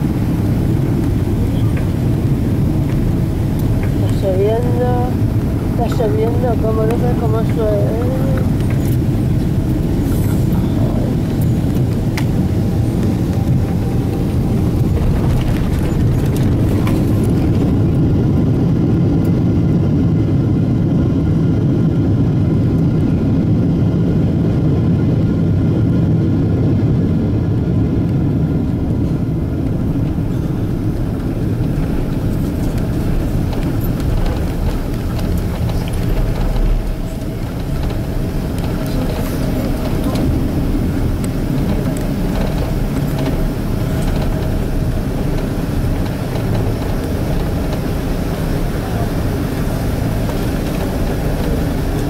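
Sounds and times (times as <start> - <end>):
airliner cabin rumble: 0.0 - 52.0
faint engine whine: 0.0 - 52.0.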